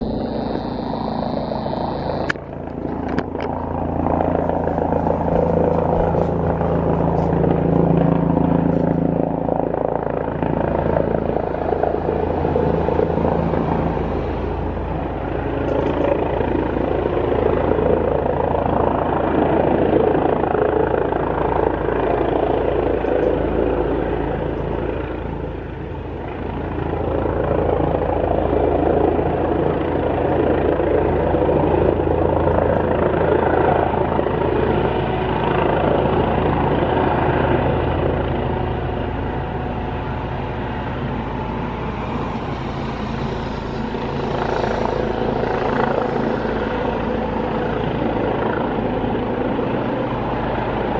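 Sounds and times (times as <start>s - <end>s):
helicopter rotor and engine drone: 0.0s - 50.9s.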